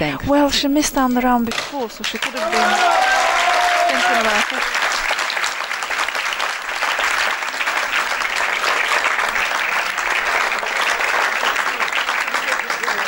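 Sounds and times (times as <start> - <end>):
spectators applauding: 2.0 - 13.0.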